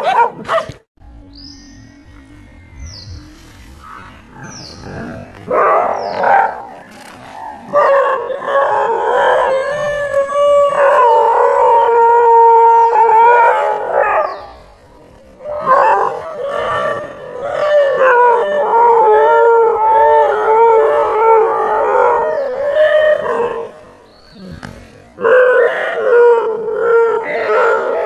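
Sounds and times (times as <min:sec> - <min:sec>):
dog howling: 0:01.9 - 0:24.1, 0:25.2 - 0:28.0.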